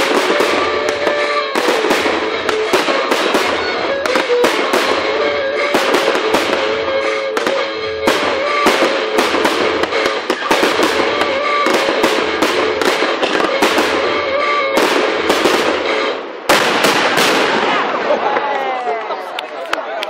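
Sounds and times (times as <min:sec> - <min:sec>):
loud bang: 0:00.0 - 0:18.4
fireworks bursting and crackling: 0:00.0 - 0:19.8.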